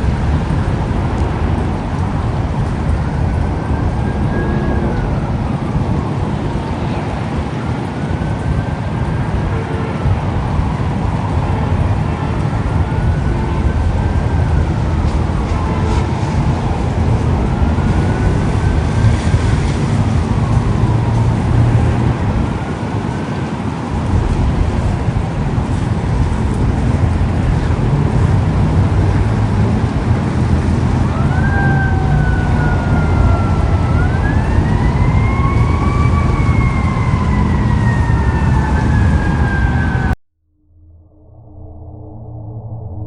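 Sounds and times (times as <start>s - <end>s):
emergency siren wailing: 0.0s - 40.2s
loud rushing noise with rumble: 0.0s - 40.2s.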